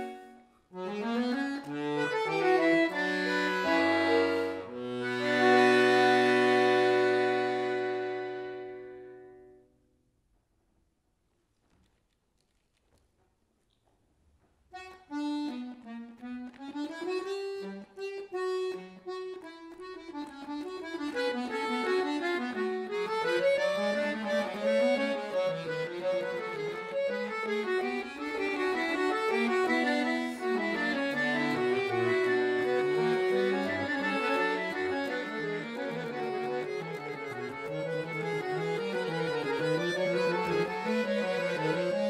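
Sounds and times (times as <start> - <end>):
accordion playing: 0.0 - 9.6, 14.8 - 42.0.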